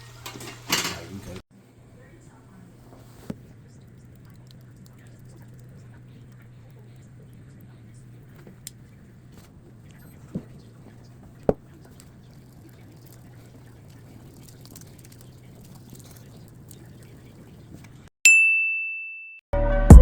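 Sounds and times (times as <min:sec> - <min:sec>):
low kitchen hum: 0:00.0 - 0:18.1.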